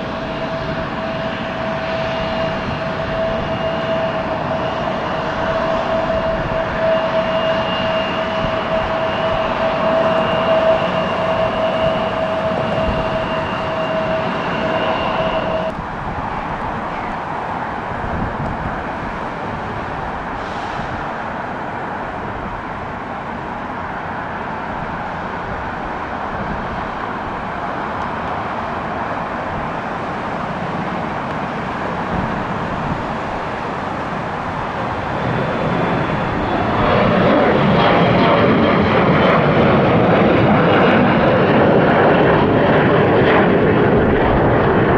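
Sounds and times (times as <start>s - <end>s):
jet engine rush: 0.0s - 44.9s
jet engine whining tones: 0.0s - 44.9s.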